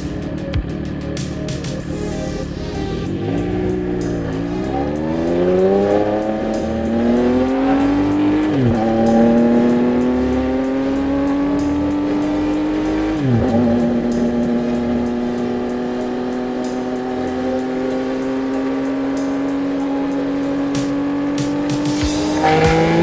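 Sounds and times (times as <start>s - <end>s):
motorcycle engine accelerating hard: 0.0s - 23.0s.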